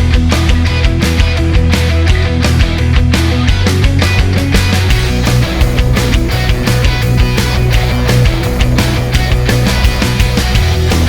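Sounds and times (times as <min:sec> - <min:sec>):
rock music with heavy drums: 0:00.0 - 0:11.0.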